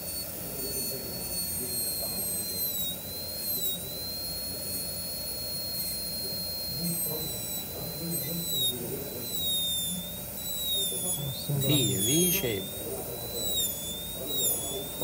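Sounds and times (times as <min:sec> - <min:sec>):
dental drill whine: 0:00.0 - 0:15.0.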